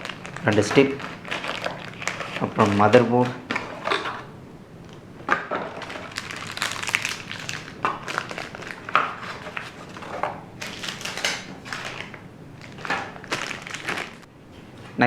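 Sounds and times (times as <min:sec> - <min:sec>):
packaging rustling and crinkling: 0:00.0 - 0:14.3.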